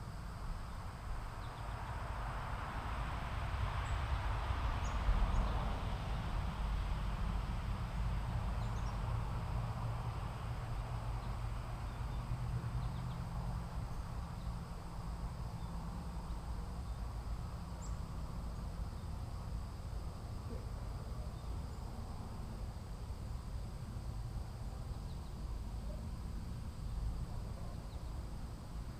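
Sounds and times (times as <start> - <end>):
low rumble and hiss: 0.0 - 28.9.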